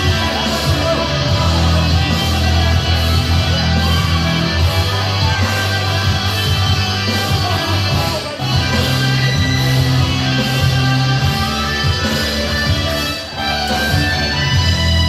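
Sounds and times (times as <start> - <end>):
loud rock music with guitar: 0.0 - 15.0
steady bass line: 0.0 - 15.0.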